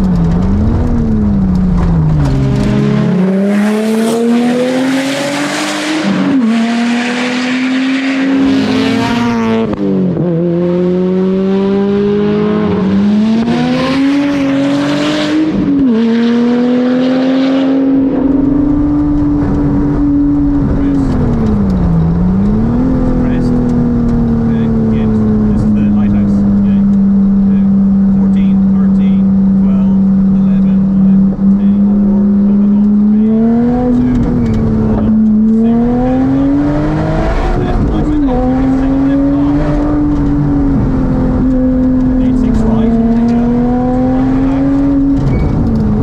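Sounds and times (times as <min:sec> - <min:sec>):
car engine accelerating through gears: 0:00.0 - 0:46.0.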